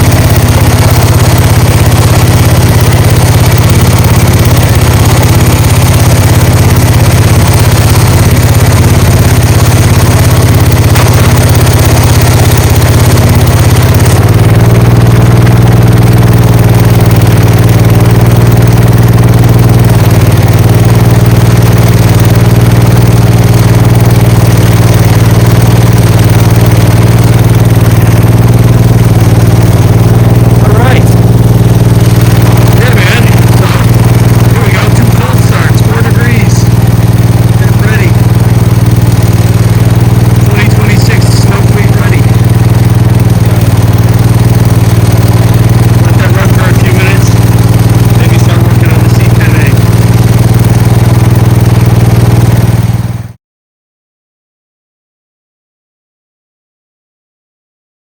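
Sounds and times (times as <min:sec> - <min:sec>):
walk-behind tractor engine running: 0:00.0 - 0:53.4.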